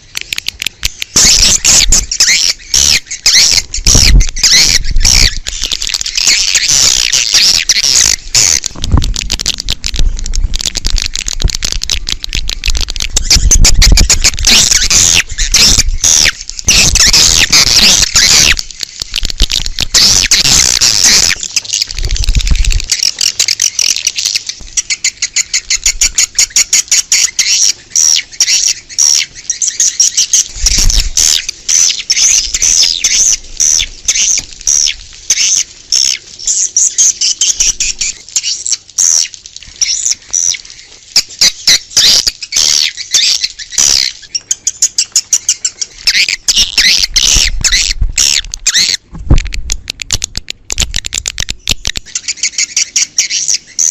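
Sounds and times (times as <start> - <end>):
swiftlets twittering: 0.8 - 48.9.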